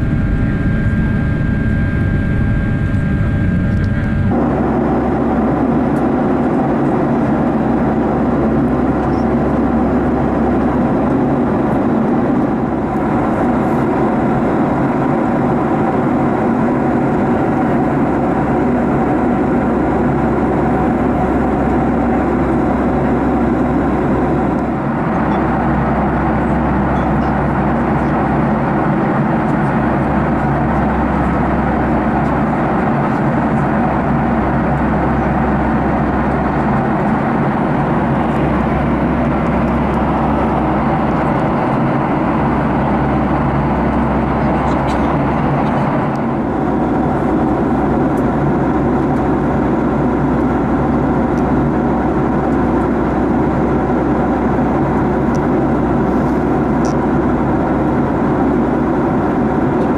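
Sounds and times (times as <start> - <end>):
jet engine and airflow drone: 0.0 - 59.9.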